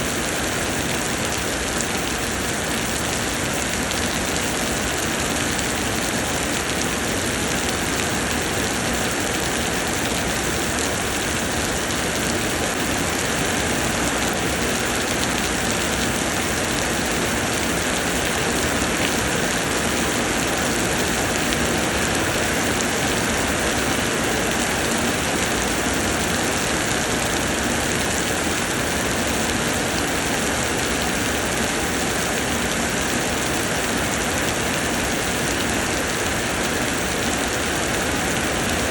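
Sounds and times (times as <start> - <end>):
rain pouring: 0.0 - 38.9.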